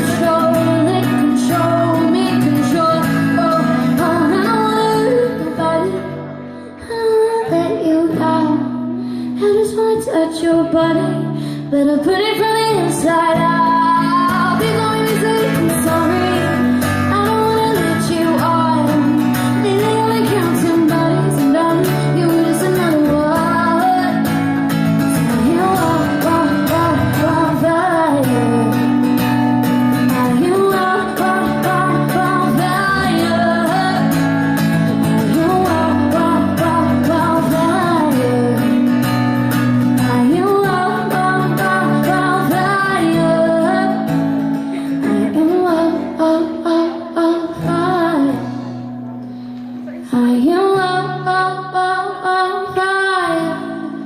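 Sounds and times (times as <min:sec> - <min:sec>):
acoustic guitar chords: 0:00.0 - 0:54.0
woman singing: 0:00.0 - 0:54.0.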